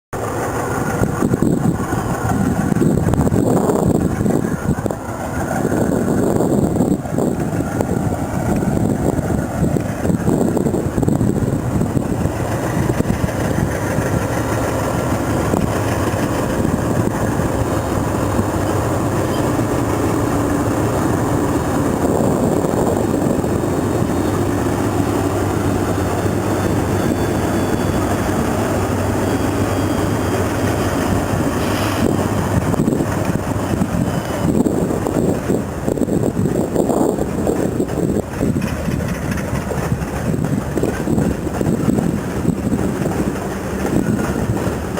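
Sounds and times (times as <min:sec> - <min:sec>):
diesel locomotive engines rumbling: 0:00.1 - 0:44.9.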